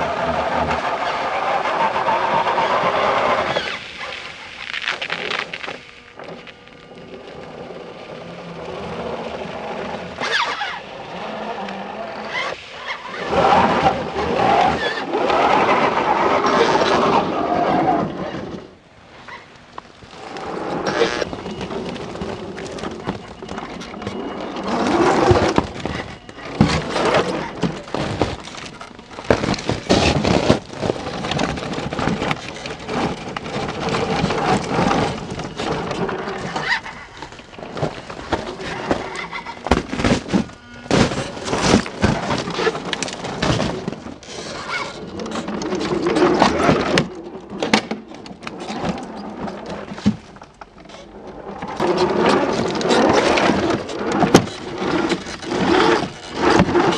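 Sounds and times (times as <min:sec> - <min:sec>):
tyres and chassis scraping stone: 0:00.0 - 0:56.9.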